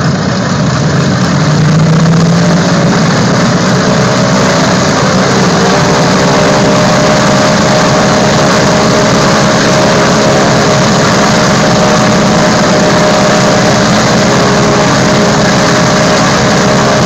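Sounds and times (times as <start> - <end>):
radial piston engines running: 0.0 - 17.0.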